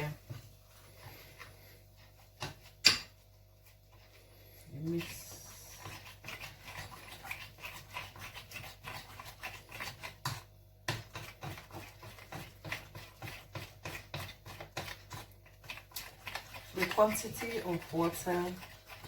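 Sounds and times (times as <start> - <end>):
utensil scraping bowl: 0.0 - 19.0.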